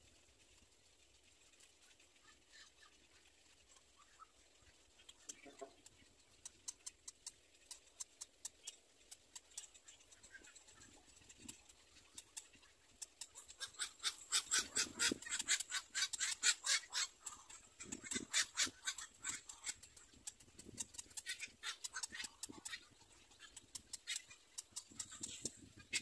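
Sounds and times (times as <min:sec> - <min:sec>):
heron chicks ticking begging calls: 0:03.9 - 0:26.0.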